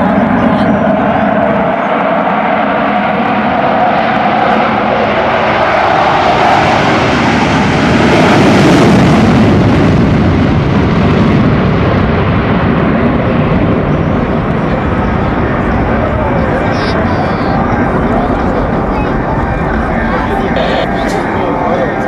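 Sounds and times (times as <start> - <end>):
jet roar: 0.0 - 22.0.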